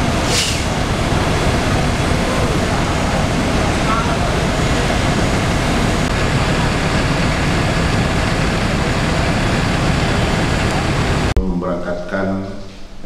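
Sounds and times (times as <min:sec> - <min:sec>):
vehicle engine noise: 0:00.0 - 0:11.4.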